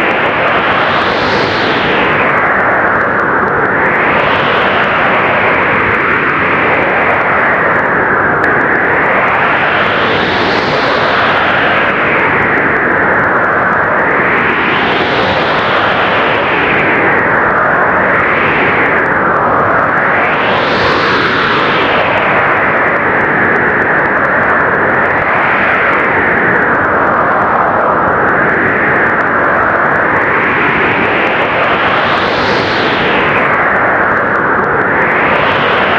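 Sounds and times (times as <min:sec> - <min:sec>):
blizzard wind blowing: 0:00.0 - 0:35.9.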